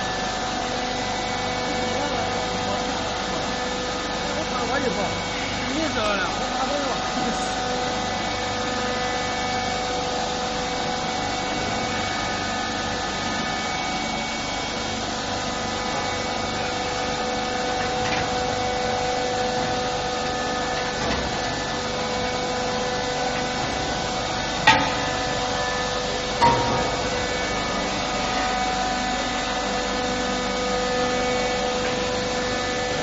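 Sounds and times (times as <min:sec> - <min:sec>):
workshop machinery rasping: 0:00.0 - 0:33.0.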